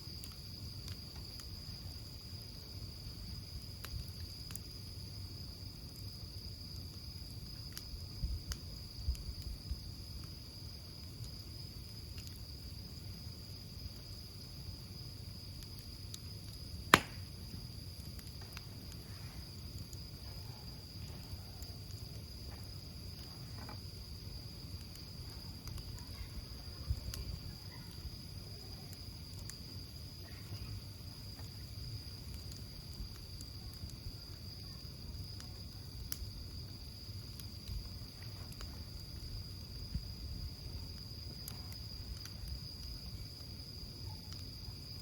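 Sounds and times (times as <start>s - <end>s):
campfire crackling and popping: 0.0s - 45.0s
insects trilling: 0.0s - 45.0s.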